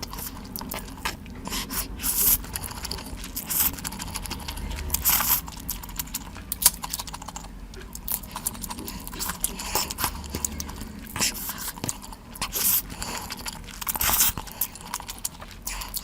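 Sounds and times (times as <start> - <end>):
chewing and biting: 0.0 - 16.0.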